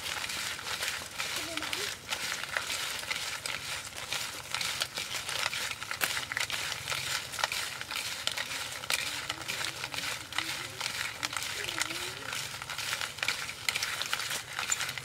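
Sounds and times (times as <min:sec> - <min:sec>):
dry beetles clicking on plastic plate: 0:00.0 - 0:15.0.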